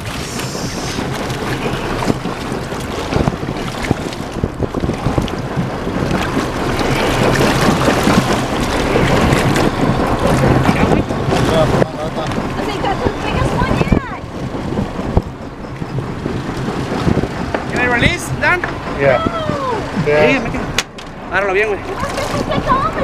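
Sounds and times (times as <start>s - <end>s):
water splashing against boat: 0.0s - 23.0s
wind buffeting microphone: 0.0s - 23.0s.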